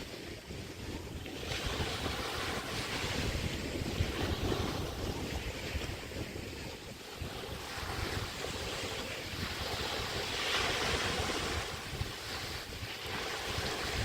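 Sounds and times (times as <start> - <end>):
small waves washing onto beach: 0.0 - 14.0
wind buffeting microphone: 0.0 - 14.0.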